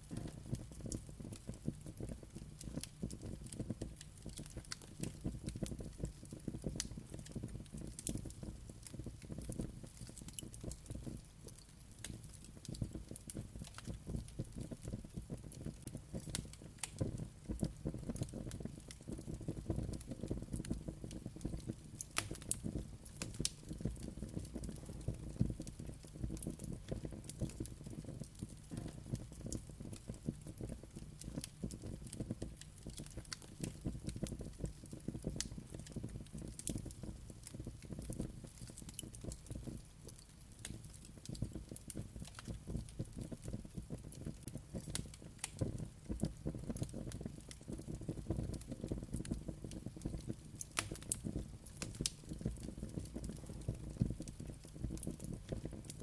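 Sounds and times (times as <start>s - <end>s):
fire crackling and popping: 0.0s - 56.0s
fire rumbling: 0.0s - 56.0s.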